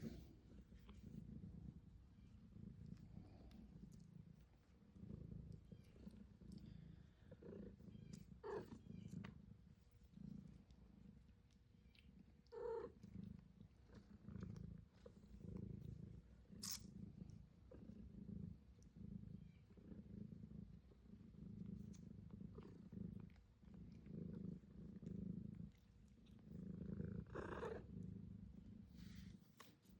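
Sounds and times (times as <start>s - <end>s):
kittens purring: 0.0s - 29.9s.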